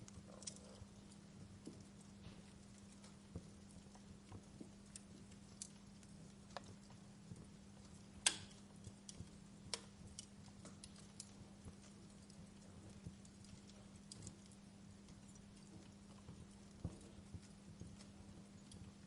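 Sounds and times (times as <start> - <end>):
faint low hum: 0.0 - 19.0
wood fire crackling: 0.0 - 19.0.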